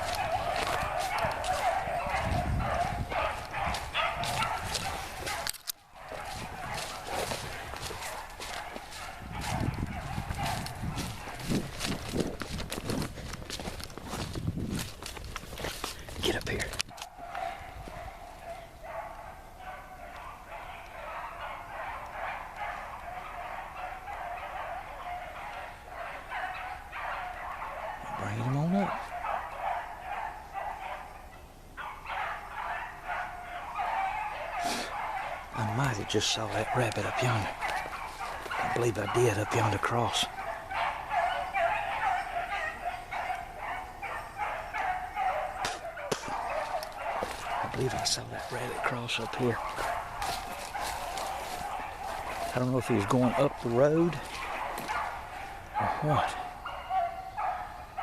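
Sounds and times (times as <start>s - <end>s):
hounds baying and yelping: 0.0s - 58.0s.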